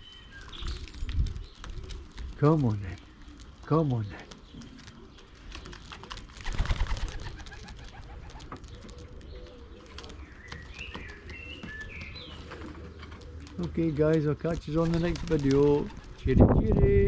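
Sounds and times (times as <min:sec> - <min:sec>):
pigeons cooing: 0:00.0 - 0:16.3
wingbeats and clattering: 0:00.4 - 0:16.8.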